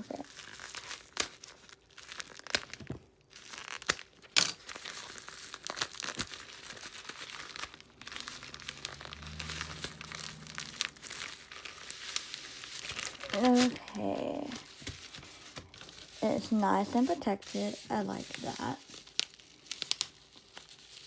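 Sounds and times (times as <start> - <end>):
packaging crinkling and tearing: 0.0 - 21.0
sharp crackles: 0.1 - 21.0.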